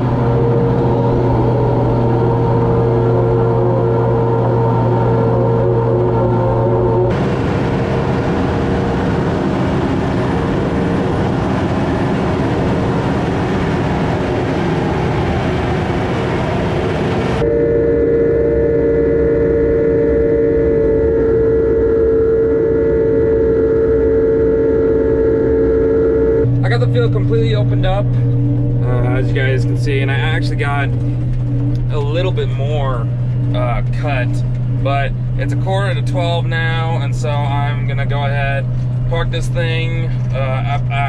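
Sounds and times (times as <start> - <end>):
farm machinery engine running: 0.0 - 41.0
steady machine whine: 0.0 - 41.0.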